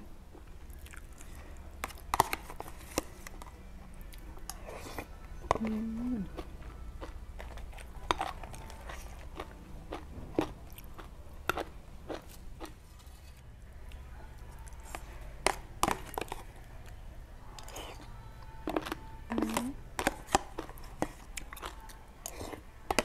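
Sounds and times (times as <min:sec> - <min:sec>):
chewing and crunching food: 0:00.3 - 0:23.0.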